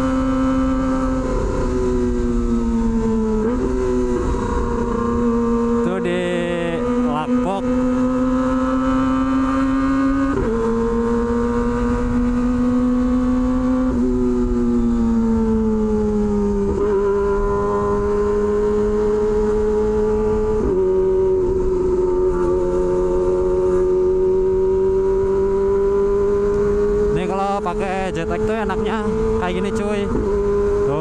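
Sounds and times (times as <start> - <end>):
motorcycle engine shifting gears: 0.0 - 31.0.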